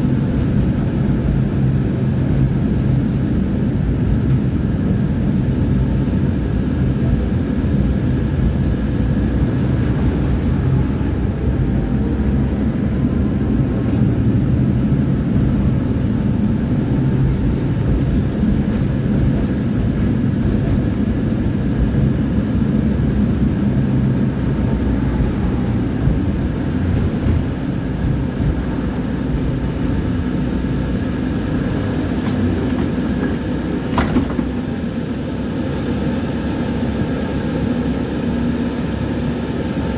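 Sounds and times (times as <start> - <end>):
tram wheels rumbling on rails: 0.0 - 39.9.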